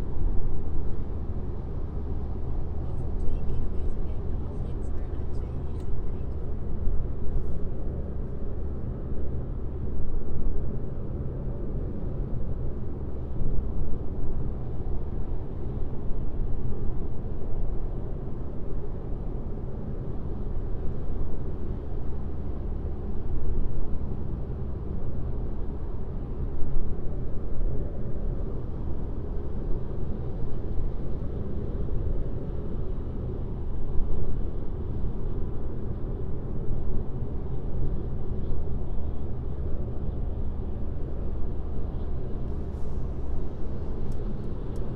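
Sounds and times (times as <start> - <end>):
car driving at highway speed: 0.0 - 44.9.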